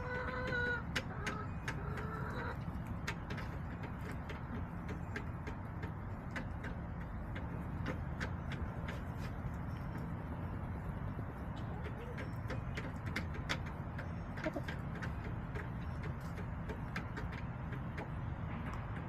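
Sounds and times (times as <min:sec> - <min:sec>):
hens calling: 0:00.0 - 0:18.2.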